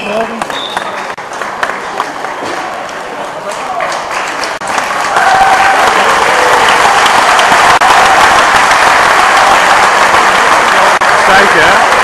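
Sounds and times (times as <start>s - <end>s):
crowd applauding: 0.2s - 12.0s.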